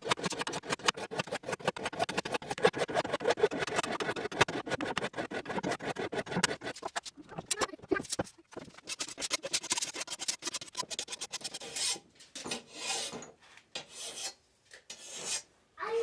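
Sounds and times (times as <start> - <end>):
file scraping steel saw blade: 0.0 - 15.5.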